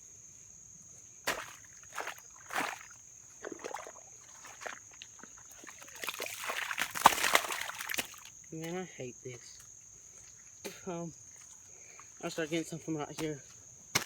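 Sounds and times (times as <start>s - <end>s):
crickets chirping: 0.0s - 14.0s
squelching in wet mud: 1.2s - 14.0s.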